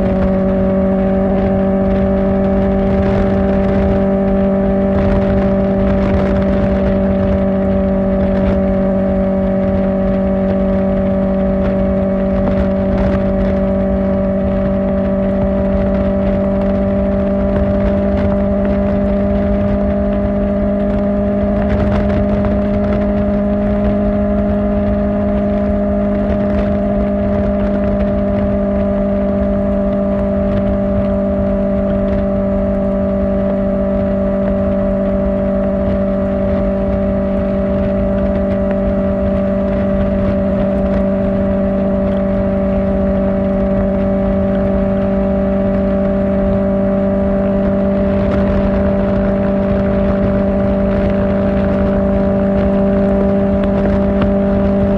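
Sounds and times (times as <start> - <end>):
motorcycle engine cruising: 0.0 - 54.9
wind rush: 0.0 - 54.9.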